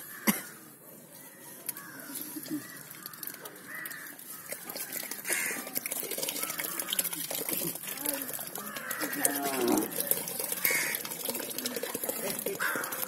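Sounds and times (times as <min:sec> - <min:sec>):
crows cawing: 0:00.0 - 0:00.6, 0:01.3 - 0:11.6, 0:12.4 - 0:13.0
faint background voices: 0:00.7 - 0:13.0.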